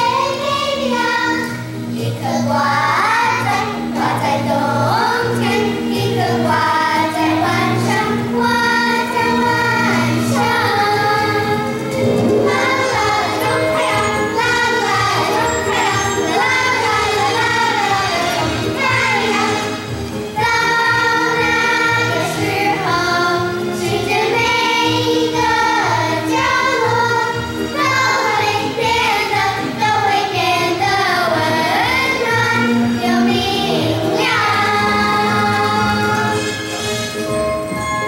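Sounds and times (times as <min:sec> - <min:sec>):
girls choir singing: 0:00.0 - 0:36.6
musical accompaniment: 0:00.0 - 0:38.0.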